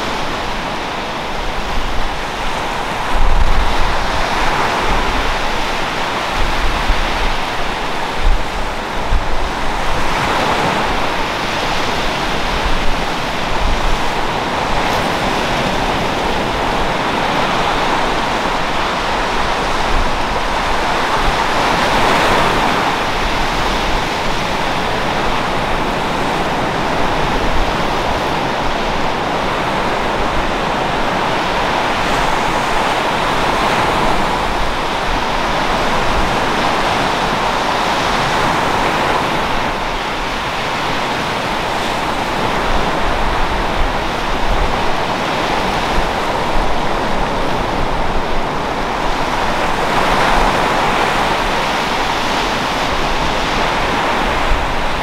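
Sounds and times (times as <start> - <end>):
waves washing up a beach: 0.0 - 55.0.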